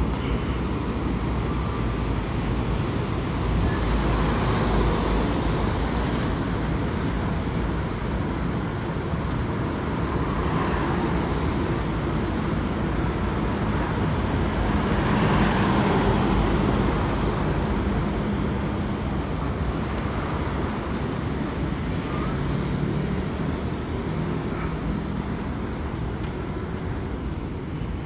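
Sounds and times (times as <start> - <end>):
street traffic noise: 0.0 - 28.0.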